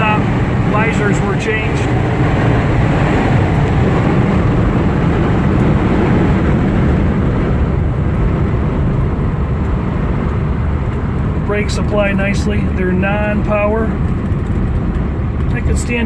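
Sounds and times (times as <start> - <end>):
car engine rumble: 0.0 - 16.0
wind around car roof: 0.0 - 16.0.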